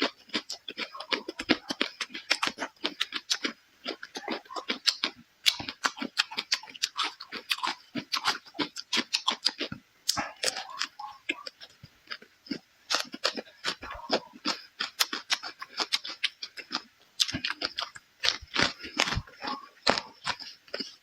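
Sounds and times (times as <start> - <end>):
chewing and crunching peppers: 0.0 - 21.0.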